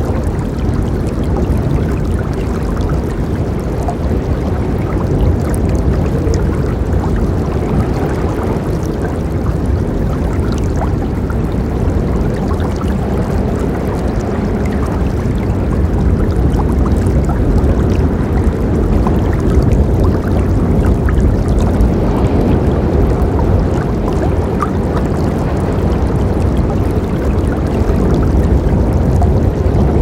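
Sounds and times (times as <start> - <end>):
river rushing: 1.7 - 19.4, 20.0 - 30.0.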